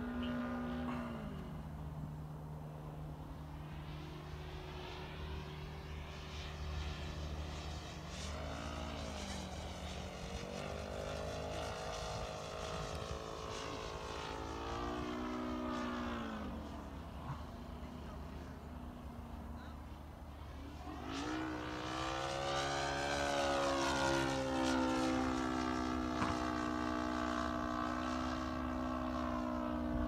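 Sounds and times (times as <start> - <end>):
model plane engine droning: 0.0 - 30.0.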